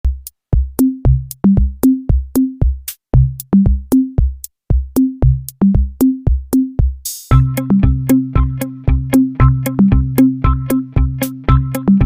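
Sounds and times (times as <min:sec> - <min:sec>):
bass notes: 0:00.0 - 0:02.6, 0:03.2 - 0:04.2, 0:05.0 - 0:06.4, 0:07.3 - 0:12.0
drum machine beat: 0:00.0 - 0:12.0.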